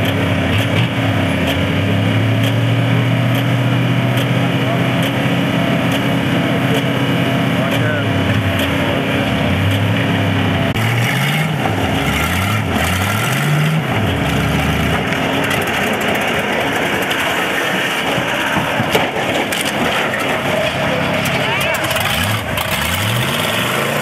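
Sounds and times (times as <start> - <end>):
engine revving: 0.0 - 24.0
heavy machinery running: 0.0 - 24.0
metal crunching and scraping: 0.0 - 24.0.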